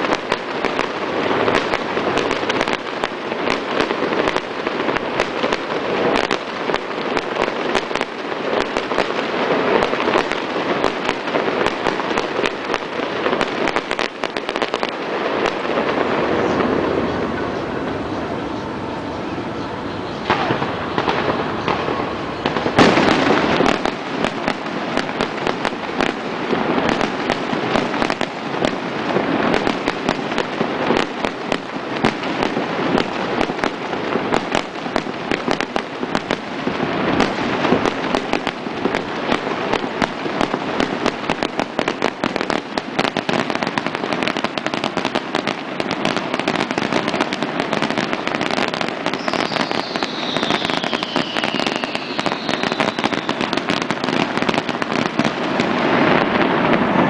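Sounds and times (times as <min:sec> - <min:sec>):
loud firework burst: 0:00.0 - 0:17.8, 0:20.2 - 0:57.0
fireworks crackling and popping: 0:00.0 - 0:18.0, 0:20.2 - 0:57.0.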